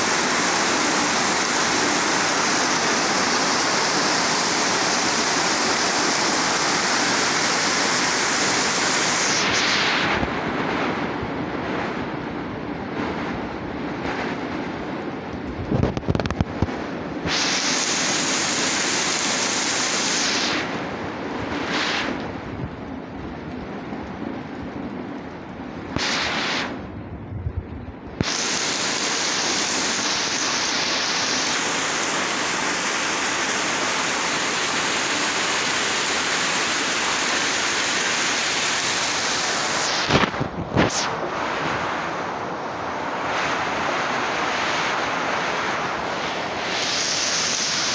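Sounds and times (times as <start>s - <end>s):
heavy rain on metal roof: 0.0s - 47.9s.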